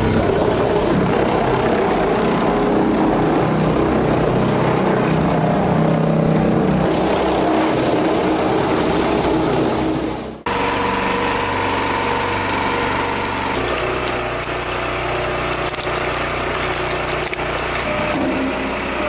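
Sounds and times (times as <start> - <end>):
higher-pitched engine: 0.0 - 16.2
large engine running under load: 0.0 - 19.0.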